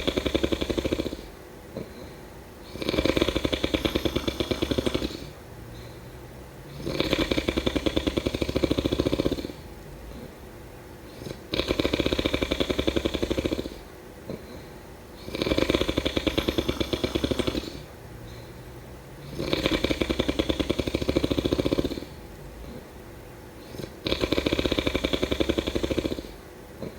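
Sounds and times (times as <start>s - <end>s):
person snoring: 0.0s - 6.0s, 6.7s - 10.3s, 11.1s - 18.6s, 19.2s - 22.9s, 23.6s - 26.9s
quiet breathing: 0.0s - 26.9s.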